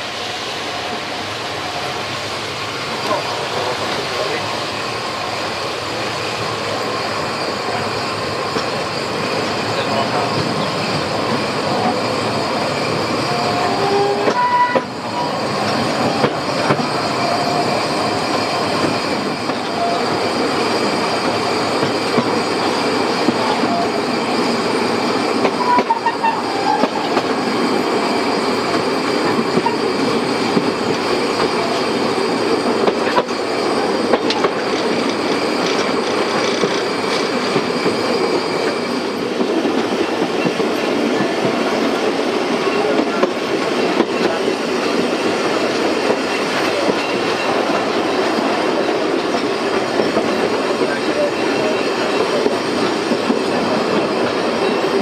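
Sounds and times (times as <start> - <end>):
train wheels rumbling on rails: 0.0 - 55.0
wheels squealing: 6.4 - 55.0.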